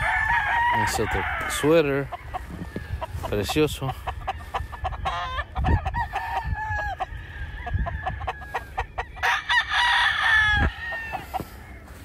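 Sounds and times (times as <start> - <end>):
roosters clucking and crowing: 0.0 - 12.0.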